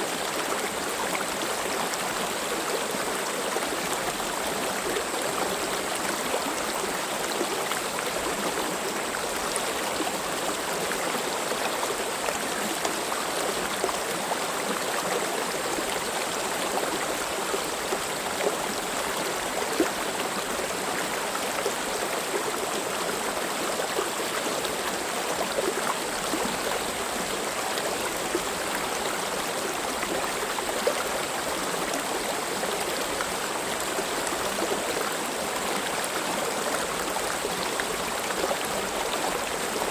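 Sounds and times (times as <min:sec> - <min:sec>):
stream flowing water: 0:00.0 - 0:39.9.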